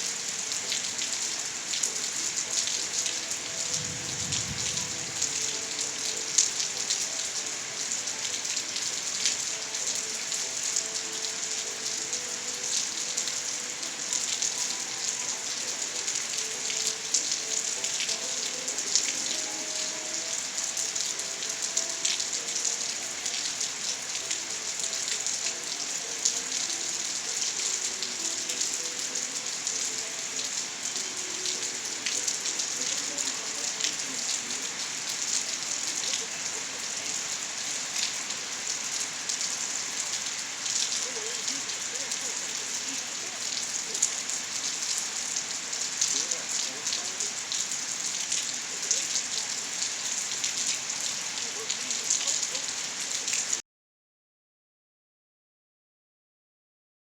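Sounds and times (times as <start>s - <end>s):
rain pattering: 0.0s - 53.6s.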